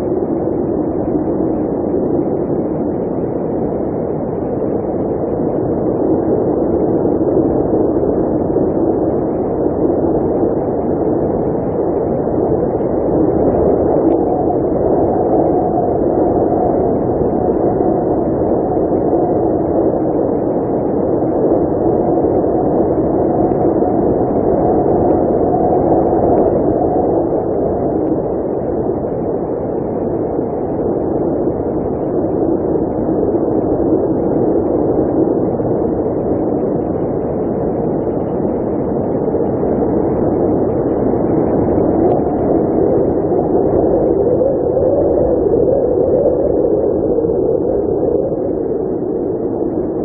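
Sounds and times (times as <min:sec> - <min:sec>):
blizzard wind blowing: 0:00.0 - 0:50.0.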